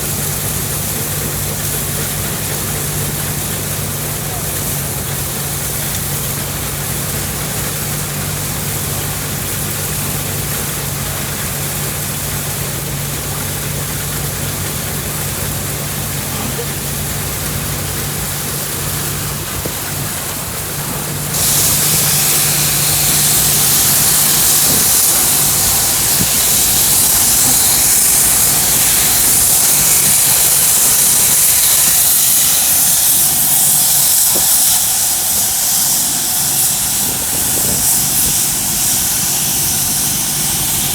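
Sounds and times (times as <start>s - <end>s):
loud hiss: 0.0s - 40.9s
low engine hum: 0.0s - 40.9s.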